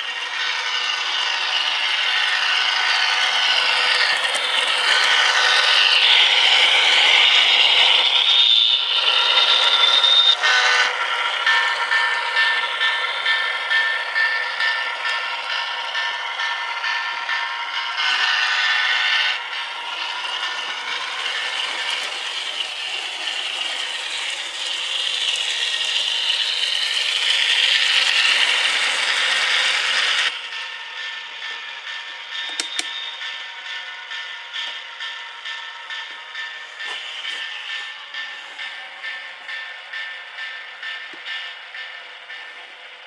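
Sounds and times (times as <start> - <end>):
model train gears whirring: 0.0 - 43.0.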